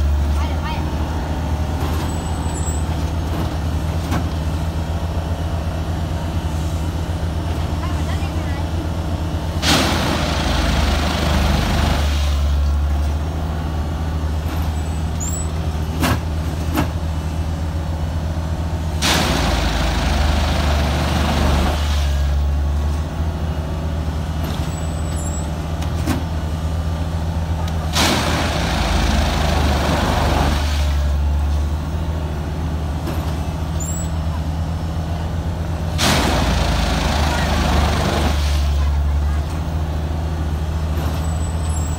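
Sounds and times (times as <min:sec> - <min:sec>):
low diesel drone: 0:00.0 - 0:41.9.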